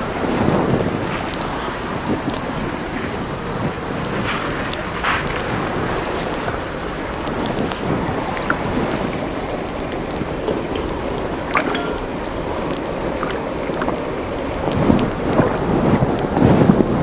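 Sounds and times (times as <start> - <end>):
heavy rain: 0.0 - 17.0
raindrops ticking on surface: 0.0 - 17.0
thunder rumble: 0.0 - 17.0
high-pitched tone: 1.0 - 15.0.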